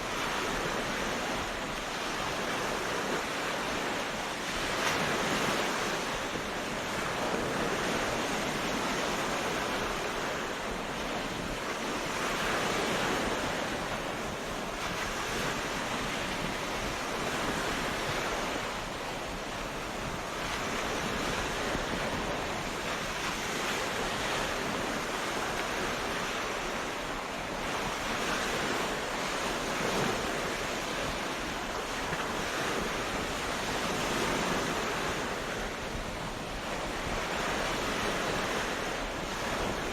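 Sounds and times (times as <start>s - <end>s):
ocean waves breaking on beach: 0.0s - 39.9s
wind: 0.0s - 39.9s.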